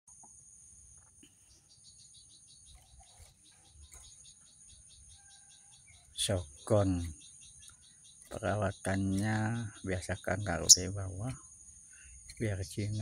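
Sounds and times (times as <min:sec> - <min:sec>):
faint chirps: 0:00.1 - 0:13.0
insect trilling: 0:00.2 - 0:13.0.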